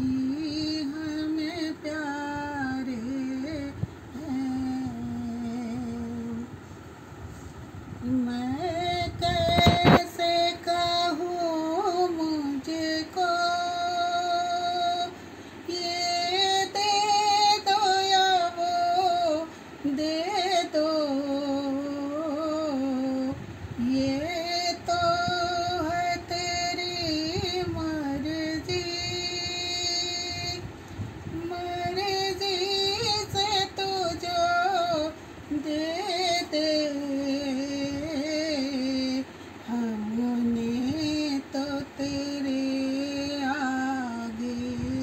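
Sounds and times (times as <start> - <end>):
woman singing unaccompanied: 0.0 - 6.8, 7.9 - 45.0.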